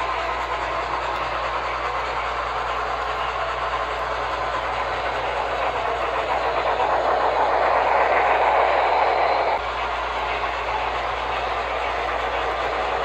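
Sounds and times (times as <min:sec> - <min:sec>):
model train rolling on track: 0:00.0 - 0:13.0.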